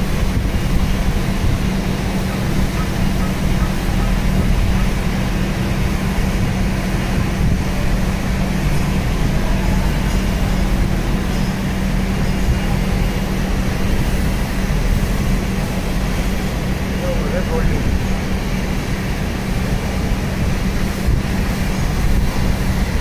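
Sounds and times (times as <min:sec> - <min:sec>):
mechanical drone with low hum: 0:00.0 - 0:23.0.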